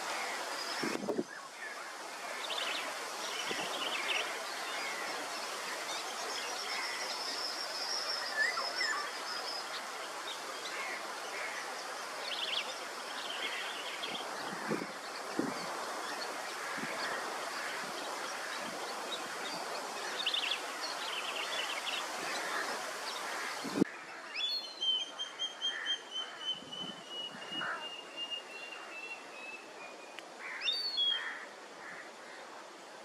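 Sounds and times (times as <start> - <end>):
steady outdoor noise: 0.0 - 33.0.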